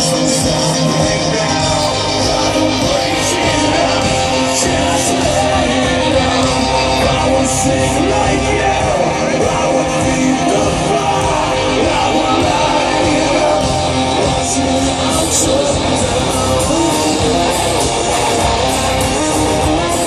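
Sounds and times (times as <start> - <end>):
distorted electric guitars: 0.0 - 20.0
drums: 0.0 - 20.0
hard rock band playing live: 0.0 - 20.0.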